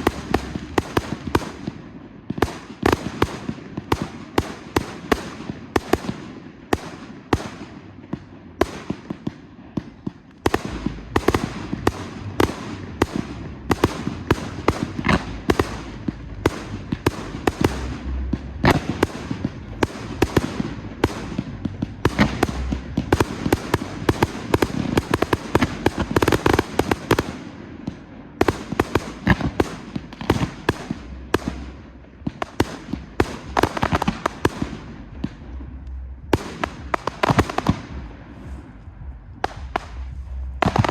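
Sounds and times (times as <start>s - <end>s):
fireworks bangs and crackles: 0.0s - 40.9s
rumble of shell bursts: 0.0s - 40.9s.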